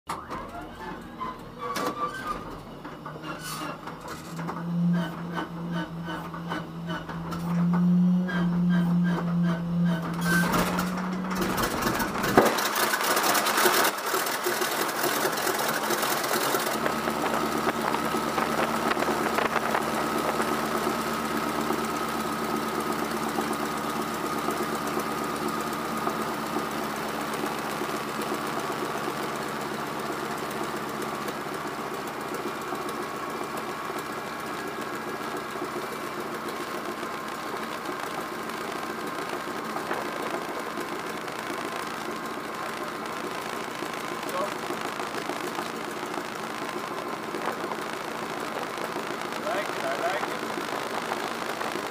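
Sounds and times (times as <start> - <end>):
engine running: 0.1 - 51.9.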